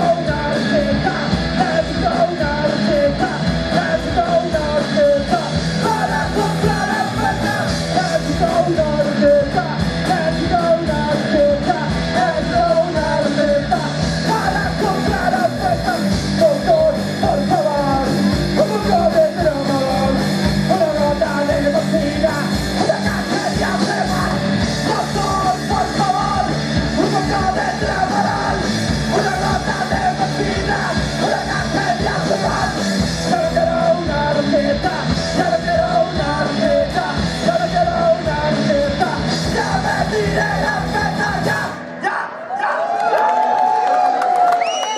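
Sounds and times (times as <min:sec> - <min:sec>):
shouted sung vocals: 0:00.0 - 0:18.0, 0:20.7 - 0:44.9
steady drum beat: 0:00.0 - 0:41.7
bass guitar: 0:00.0 - 0:42.1
electric guitar: 0:00.0 - 0:42.4.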